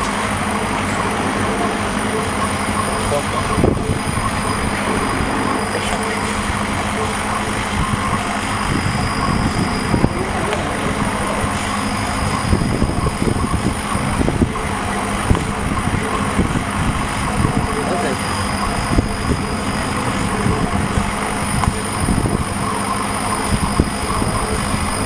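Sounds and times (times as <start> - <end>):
laser cutter humming and hissing: 0.0 - 25.0
low rumbles: 0.0 - 25.0.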